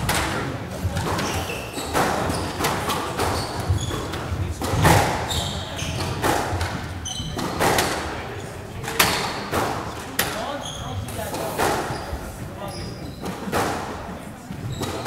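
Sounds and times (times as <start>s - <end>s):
squash ball hitting rackets and walls: 0.0s - 12.5s, 13.2s - 15.0s
sneakers squeaking on wooden floor: 0.0s - 15.0s.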